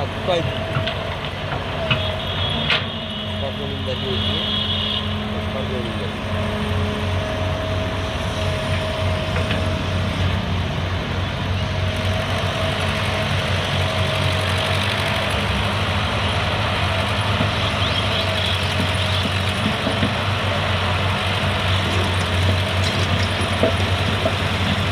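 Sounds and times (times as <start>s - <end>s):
excavator diesel engine working: 0.0s - 24.9s.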